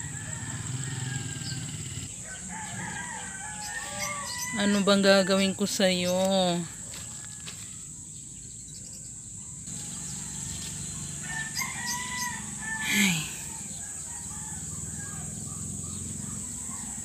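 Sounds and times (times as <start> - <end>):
rooster crowing: 0.0 - 5.8, 6.6 - 7.9, 9.7 - 17.0.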